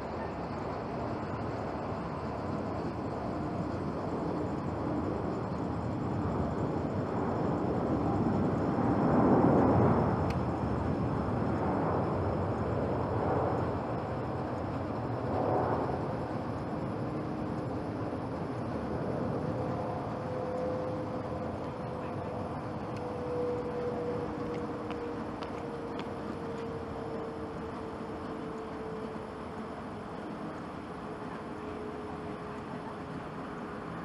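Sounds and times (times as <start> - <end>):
jet engine rush: 0.0 - 34.0.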